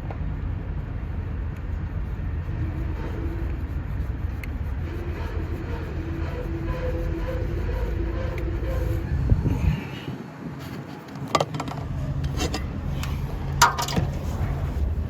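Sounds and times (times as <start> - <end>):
engine rumbling: 0.0 - 15.0
faint drone: 0.0 - 15.0.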